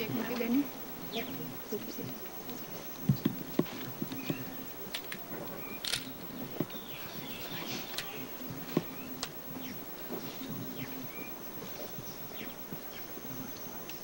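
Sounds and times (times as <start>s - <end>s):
bird chirps: 1.0s - 4.8s, 5.4s - 14.0s.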